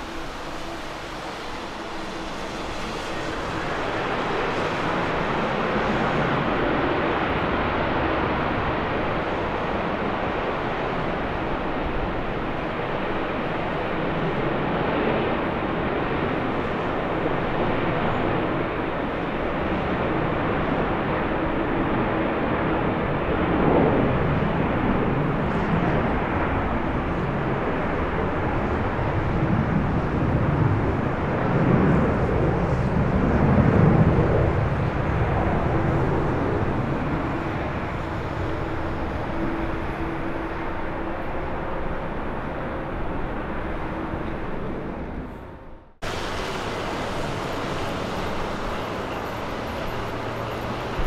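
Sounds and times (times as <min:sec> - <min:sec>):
jet engine rushing: 0:00.0 - 0:21.4, 0:22.9 - 0:51.0.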